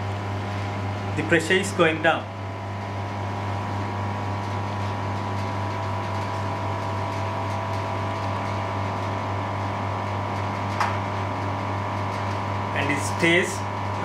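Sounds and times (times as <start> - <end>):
electric vacuum pump humming: 0.0 - 14.0.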